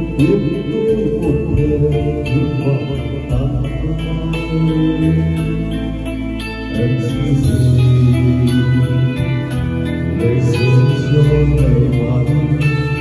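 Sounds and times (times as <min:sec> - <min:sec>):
karaoke music with guitar: 0:00.0 - 0:13.0
man singing into a microphone: 0:00.0 - 0:13.0.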